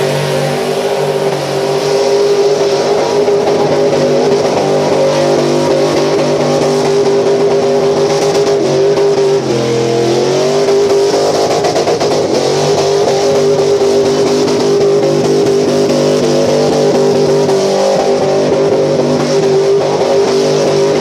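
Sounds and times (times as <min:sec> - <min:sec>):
engine revving high: 0:00.0 - 0:21.0.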